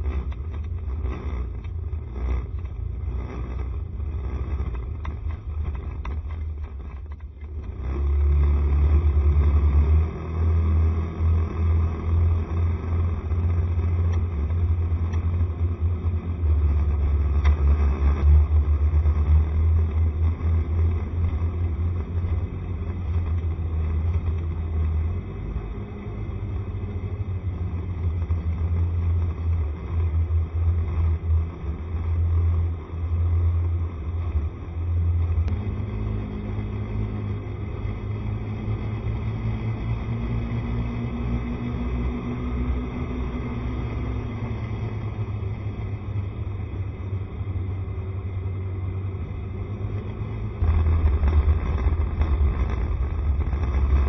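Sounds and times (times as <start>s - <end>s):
road noise: 0.0s - 54.0s
scooter engine: 0.0s - 54.0s
wind rumble on microphone: 0.0s - 54.0s.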